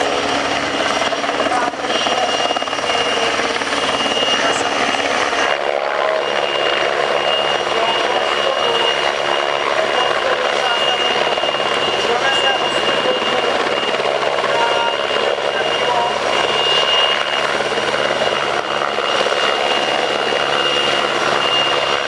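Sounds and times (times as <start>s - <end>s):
helicopter hovering: 0.0s - 22.0s
turbine whine: 0.0s - 22.0s.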